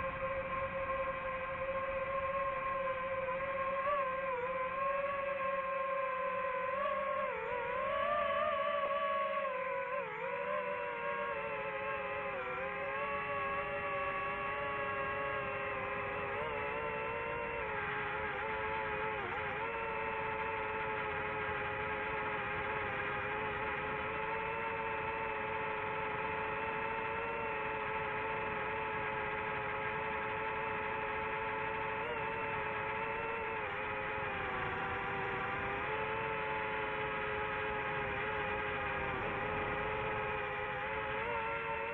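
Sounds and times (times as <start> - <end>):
drone propellers whirring: 0.0 - 41.9.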